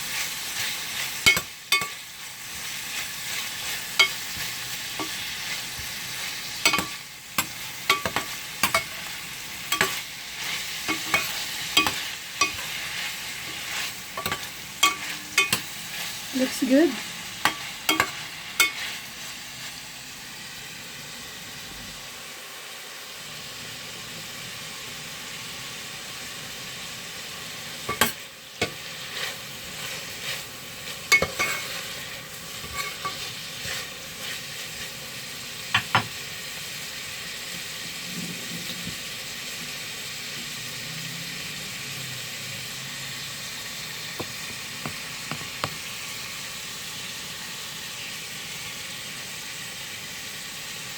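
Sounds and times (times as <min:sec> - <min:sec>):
tomatoes sizzling in a pan: 0:00.0 - 0:50.9.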